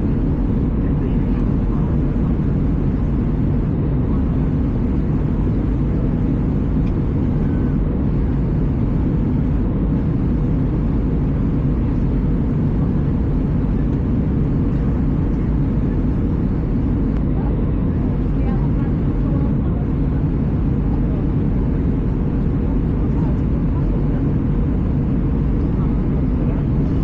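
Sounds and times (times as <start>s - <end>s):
airplane cabin engine drone: 0.0s - 27.0s.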